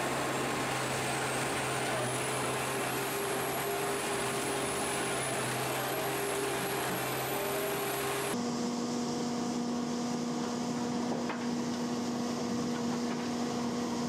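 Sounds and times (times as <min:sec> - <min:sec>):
second shredder steady hum: 0:00.0 - 0:11.8
shredder machine hum with whine: 0:00.0 - 0:14.0.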